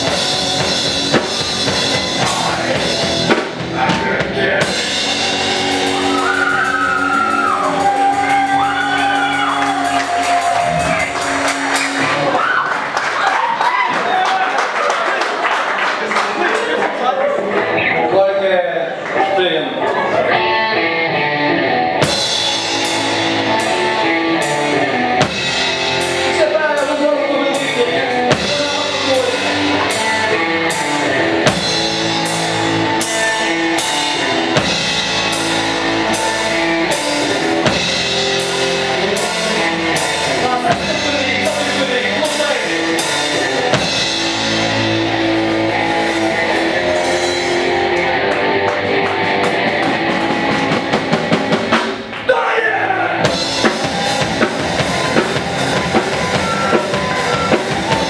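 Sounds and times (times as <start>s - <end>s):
drum kit beat: 0.0s - 13.5s, 21.4s - 52.3s, 52.9s - 58.0s
electric guitar: 0.0s - 13.6s, 17.4s - 52.3s, 52.9s - 58.0s.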